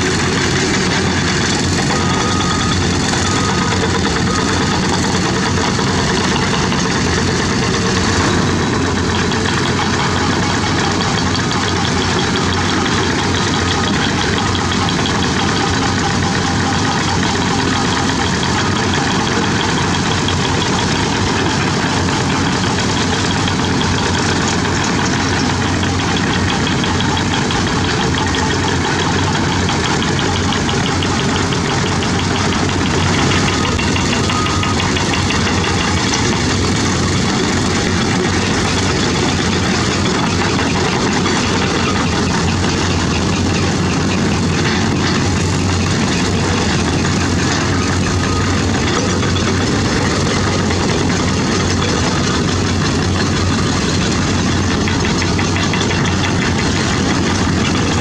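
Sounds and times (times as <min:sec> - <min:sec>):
diesel engines of heavy machinery: 0:00.0 - 0:58.0.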